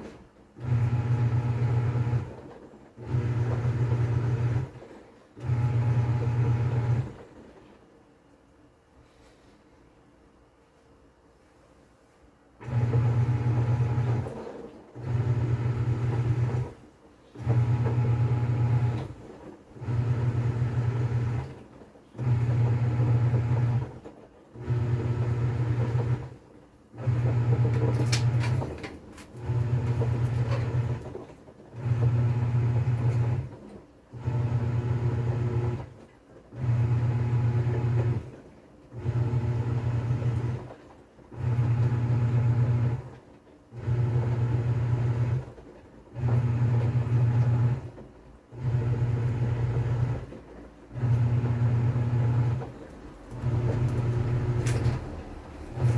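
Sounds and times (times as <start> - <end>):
washing machine motor humming: 0.0 - 7.7, 12.6 - 55.9.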